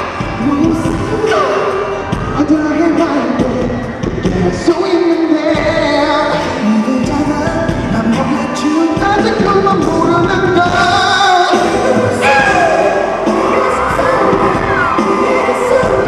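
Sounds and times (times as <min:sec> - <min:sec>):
pop backing track with beat: 0:00.0 - 0:16.0
man singing into microphone: 0:00.2 - 0:16.0.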